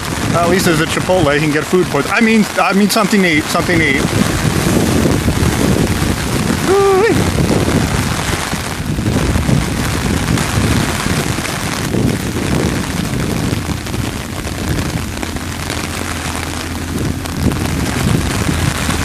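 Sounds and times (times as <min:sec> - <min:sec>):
dense low rumble: 0:00.0 - 0:19.0
steady rain pouring: 0:00.0 - 0:19.0.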